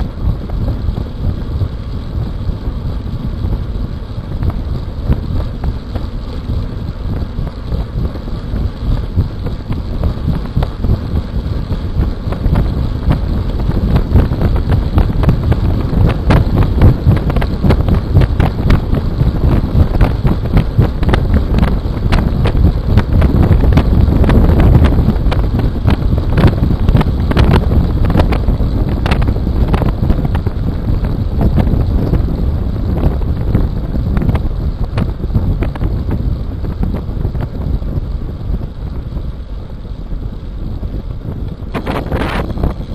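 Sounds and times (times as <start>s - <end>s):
tyres rumbling on coarse road: 0.0s - 42.9s
wind buffeting microphone: 0.0s - 42.9s.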